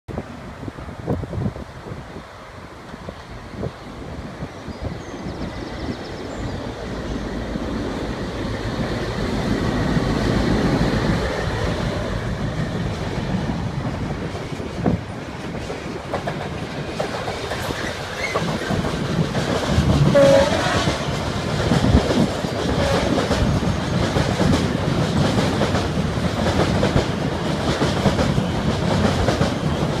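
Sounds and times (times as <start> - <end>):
diesel locomotive engines: 0.2 - 30.0.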